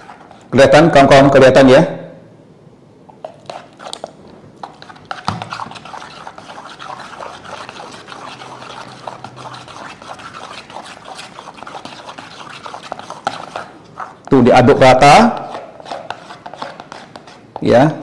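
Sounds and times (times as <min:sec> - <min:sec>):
chopsticks stirring wet mixture: 0:00.0 - 0:00.5, 0:03.2 - 0:17.9.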